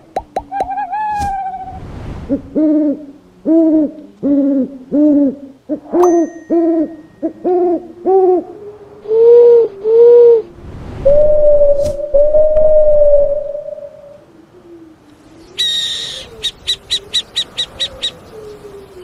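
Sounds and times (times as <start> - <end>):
owl hooting: 0.4 - 19.0.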